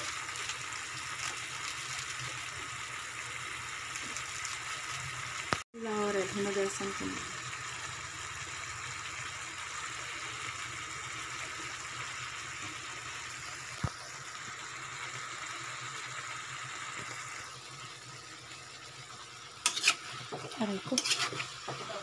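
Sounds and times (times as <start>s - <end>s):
food sizzling in a wok: 0.0s - 22.0s.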